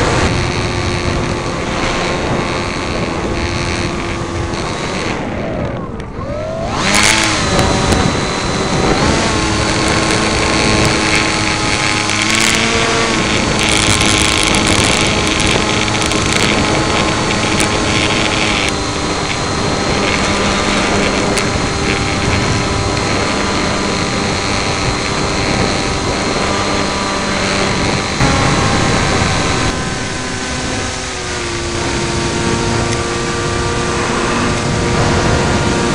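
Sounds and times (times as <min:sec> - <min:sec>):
model plane motor whine: 0:00.0 - 0:35.9
wind rushing over microphone: 0:00.0 - 0:35.9.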